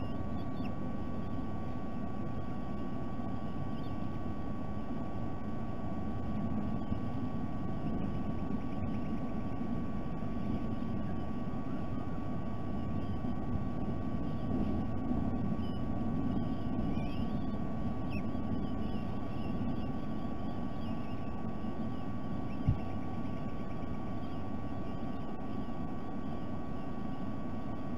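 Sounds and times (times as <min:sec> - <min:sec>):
electrical hum: 0:00.0 - 0:27.9.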